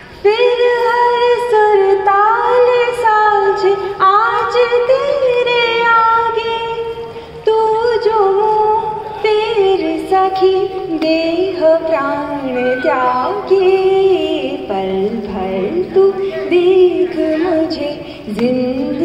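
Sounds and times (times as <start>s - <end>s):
woman singing into a microphone: 0.0s - 19.0s.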